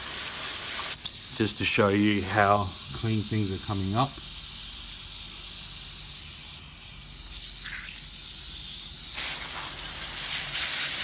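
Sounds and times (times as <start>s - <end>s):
liquid spraying hiss: 0.0s - 11.0s.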